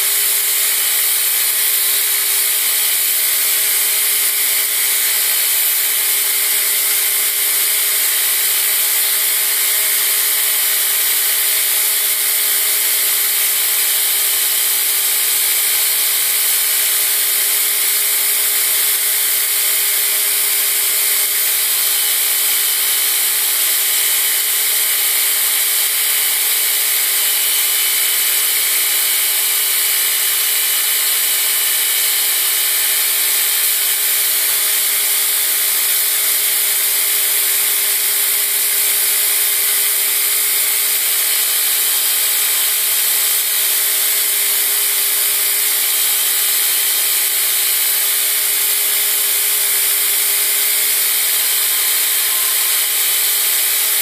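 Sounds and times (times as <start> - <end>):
belt grinder grinding steel: 0.0 - 54.0.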